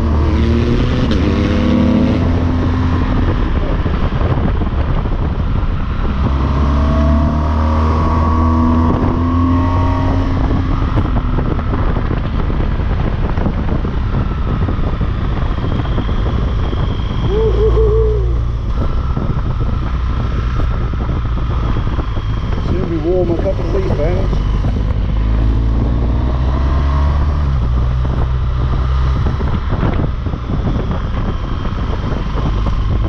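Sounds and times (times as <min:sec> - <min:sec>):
motorcycle engine accelerating: 0:00.0 - 0:33.0
steady rushing noise: 0:00.0 - 0:33.0.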